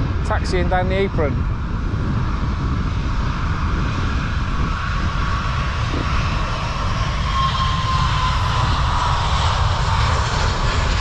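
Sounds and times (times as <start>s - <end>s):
jet engines roaring at takeoff: 0.0s - 11.0s.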